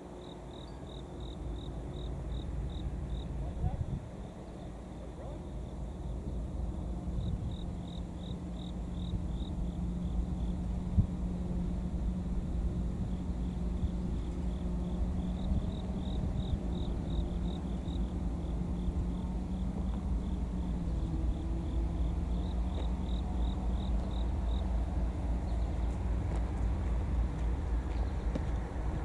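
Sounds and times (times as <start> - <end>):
insect chirping in pulses: 0.2 - 3.5, 4.2 - 25.9.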